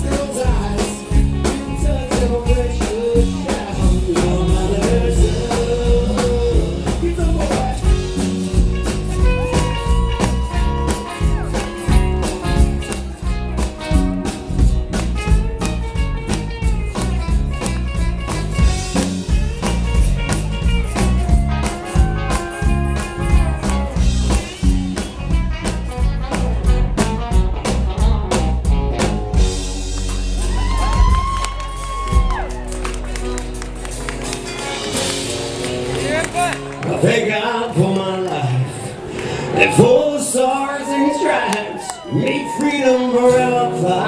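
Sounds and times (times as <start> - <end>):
drums steady beat: 0.0 - 36.5
live band playing: 0.0 - 44.0.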